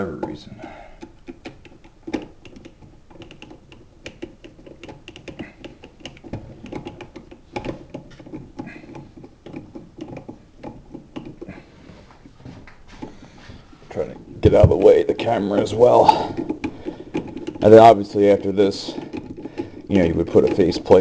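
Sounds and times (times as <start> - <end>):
plastic clicks and rattles: 0.1 - 13.3, 14.0 - 21.0.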